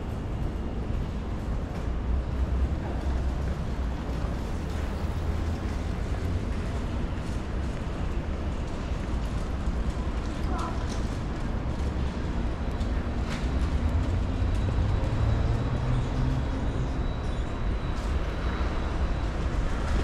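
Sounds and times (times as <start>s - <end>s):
motor traffic rumble: 0.0s - 20.0s.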